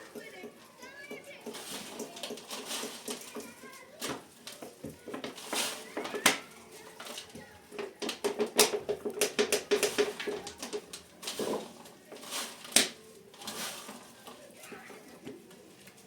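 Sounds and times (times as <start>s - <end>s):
cookware and utensils clattering: 0.0s - 16.0s.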